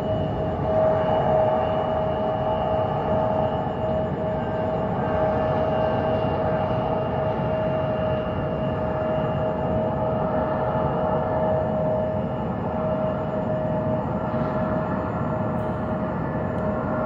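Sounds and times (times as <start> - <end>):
jet engines roaring at take-off: 0.0 - 17.0.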